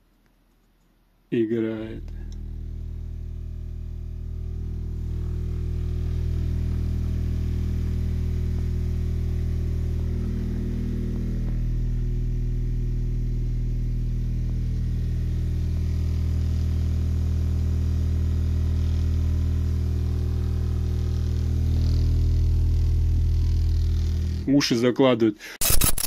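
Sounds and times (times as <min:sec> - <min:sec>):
deep subwoofer test tone hum: 0:01.4 - 0:24.8.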